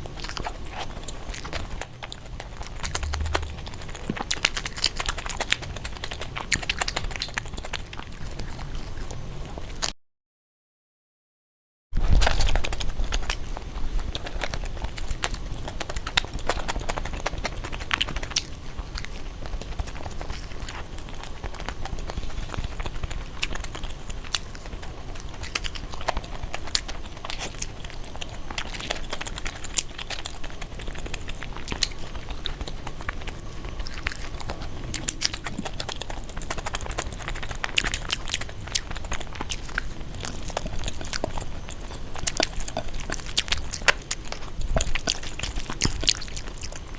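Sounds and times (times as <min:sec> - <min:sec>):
person chewing crunchy food: 0:00.0 - 0:09.9, 0:12.0 - 0:46.9.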